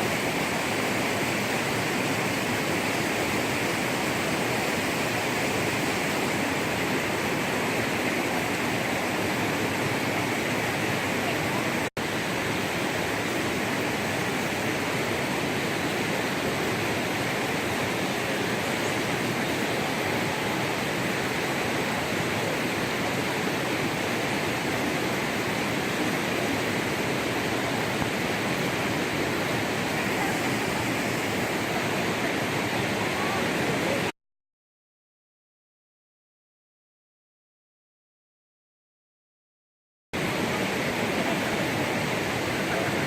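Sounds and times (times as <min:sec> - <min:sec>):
fast-flowing river water: 0:00.0 - 0:34.1, 0:40.2 - 0:43.0.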